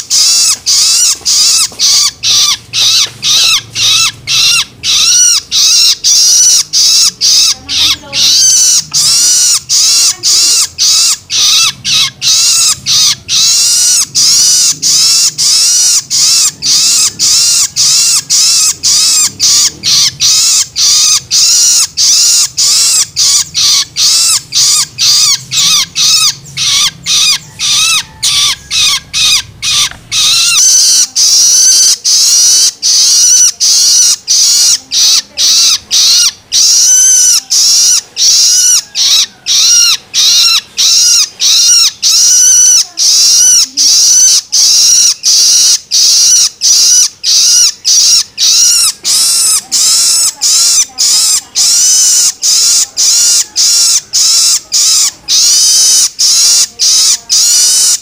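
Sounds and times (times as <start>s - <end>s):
bird chick begging calls: 0.0s - 58.0s.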